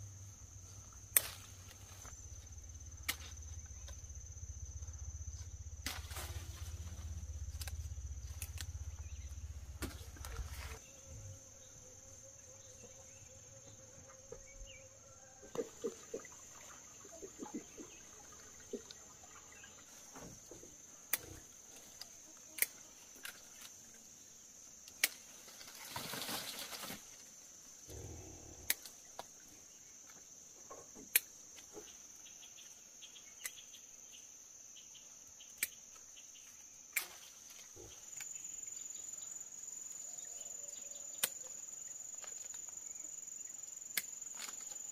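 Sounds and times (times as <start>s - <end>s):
crickets chirring: 0.0s - 44.9s.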